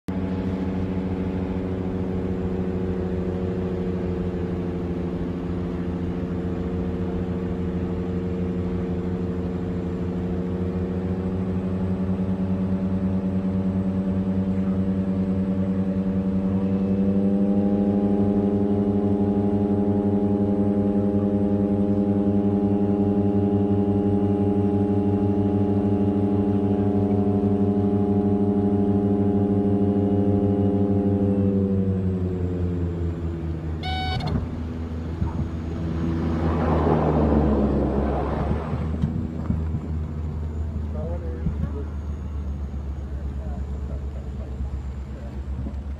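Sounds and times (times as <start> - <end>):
turboprop aircraft droning: 0.1 - 45.9.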